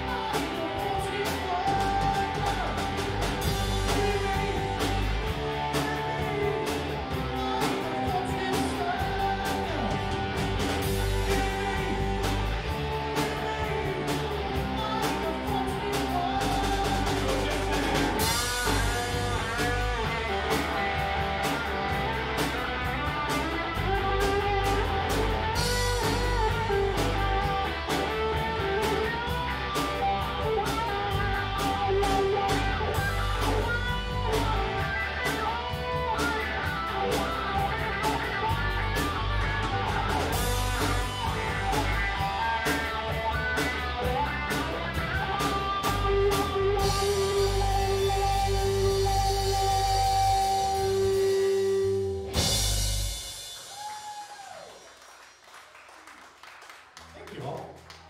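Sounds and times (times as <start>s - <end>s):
drums with cymbal hits: 0.0s - 54.8s
electric guitar: 0.0s - 55.0s
bass: 0.0s - 58.0s.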